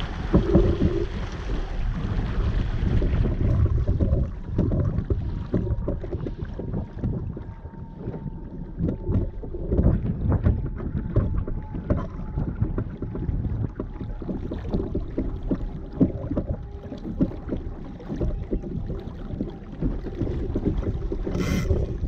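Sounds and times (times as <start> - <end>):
low rumble: 0.0 - 22.0
water splashing against boat hull: 0.0 - 22.0
wind buffeting microphone: 0.0 - 22.0.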